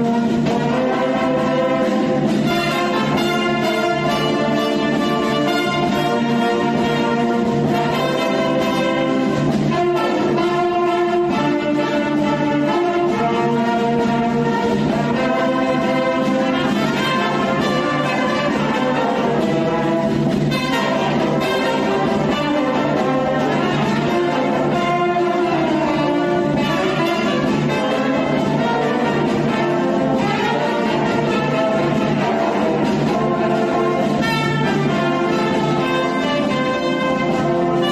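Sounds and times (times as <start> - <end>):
band playing instrumental music: 0.0 - 37.9.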